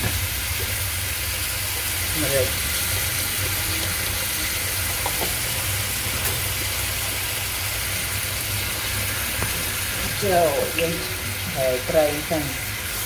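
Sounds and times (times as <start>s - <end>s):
sauce simmering in a pan: 0.0s - 13.0s.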